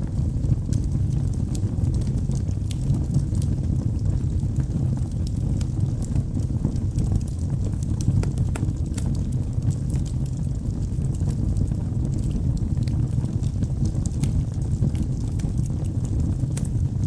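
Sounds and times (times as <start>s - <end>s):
low rumble of fire: 0.0s - 17.0s
wood crackling and popping: 0.0s - 17.0s.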